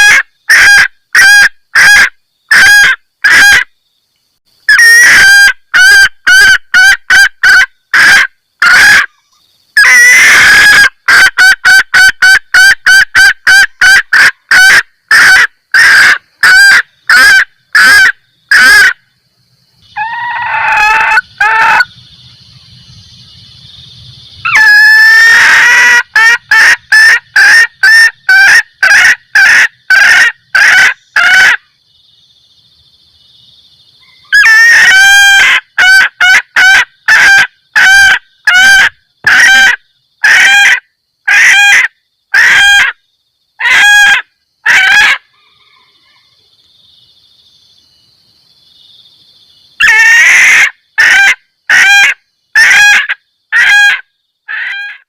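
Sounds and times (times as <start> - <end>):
hen cackling call: 0.0 - 3.7, 4.7 - 19.0, 19.8 - 22.0, 24.4 - 31.6, 34.0 - 43.0, 43.6 - 46.4, 49.8 - 55.0.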